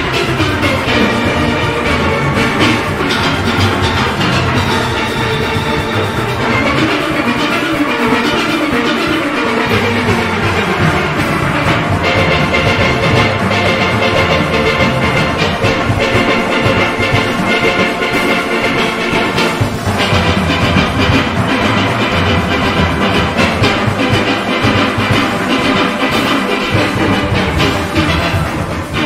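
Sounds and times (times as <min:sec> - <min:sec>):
drums and percussion beat: 0:00.0 - 0:29.0
steelpans playing a tune: 0:00.0 - 0:29.0.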